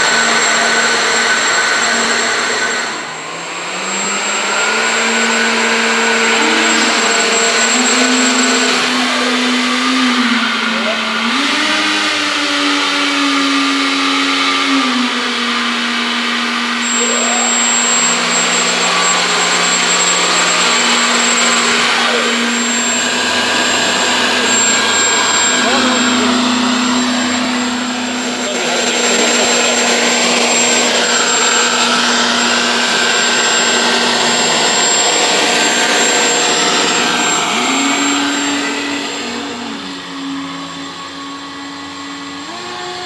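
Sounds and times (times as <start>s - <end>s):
hovercraft fans whirring: 0.0s - 43.0s.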